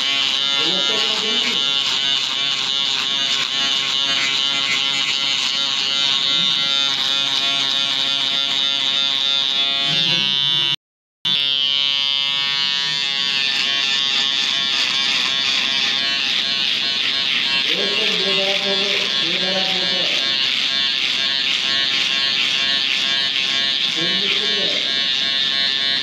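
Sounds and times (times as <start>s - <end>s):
electric shaver buzzing: 0.0s - 26.0s.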